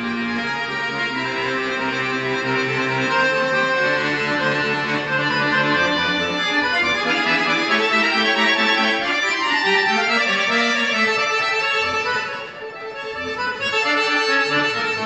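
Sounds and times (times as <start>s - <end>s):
piano accordion playing: 0.0s - 15.0s.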